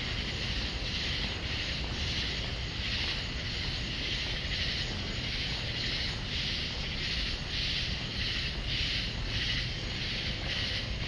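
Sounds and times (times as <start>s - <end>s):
pulsing insect chorus: 0.0s - 11.0s
wind rumble on microphone: 0.0s - 11.0s.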